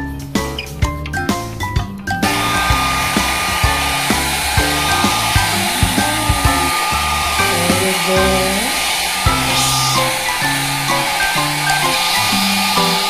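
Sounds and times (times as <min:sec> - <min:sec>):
plucked background music: 0:00.0 - 0:13.0
blow dryer running: 0:02.2 - 0:13.0.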